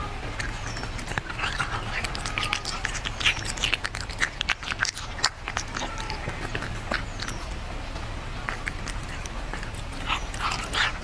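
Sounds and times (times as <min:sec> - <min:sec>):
cat crunching food: 0:00.0 - 0:07.7, 0:08.3 - 0:11.0.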